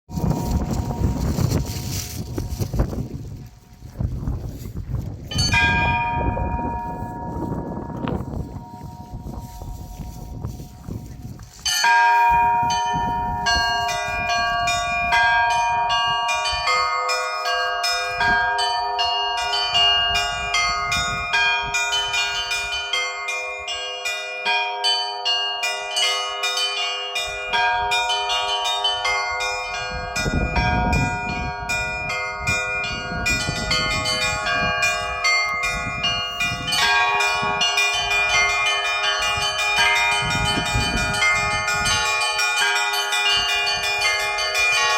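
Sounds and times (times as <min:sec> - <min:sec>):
low bells ringing: 0:00.1 - 0:44.9
small high bells striking: 0:05.3 - 0:44.9.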